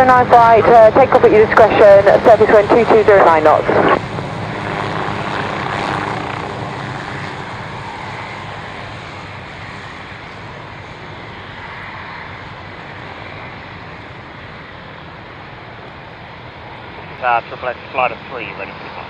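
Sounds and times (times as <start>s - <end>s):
aircraft engines departing: 0.0s - 19.0s.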